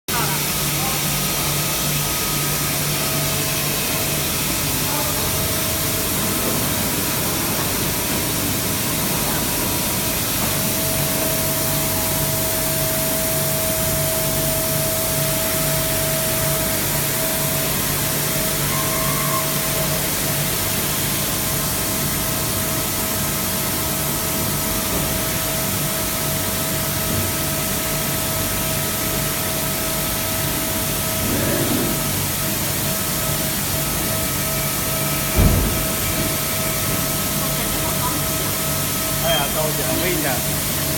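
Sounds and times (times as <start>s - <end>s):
machining center running: 0.1s - 40.9s.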